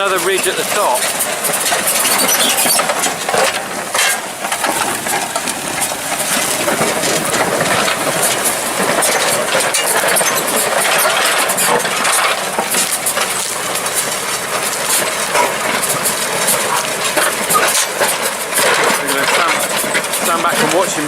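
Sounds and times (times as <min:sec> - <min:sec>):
plough clinking and rattling: 0:00.0 - 0:21.0
tractor engine running: 0:00.0 - 0:21.0.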